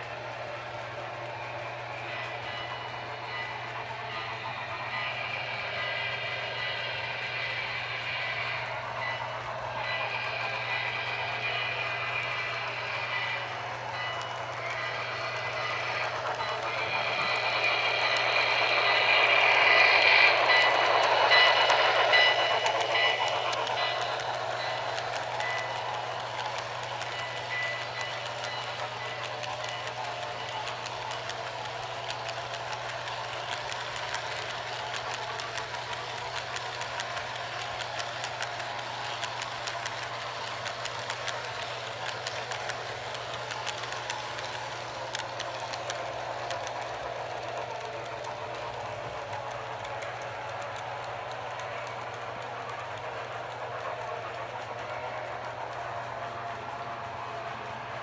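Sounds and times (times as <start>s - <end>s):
model steam locomotive running: 0.0s - 58.0s
rolling noise and low hum: 0.0s - 58.0s
wheels clicking over track joints: 2.1s - 58.0s.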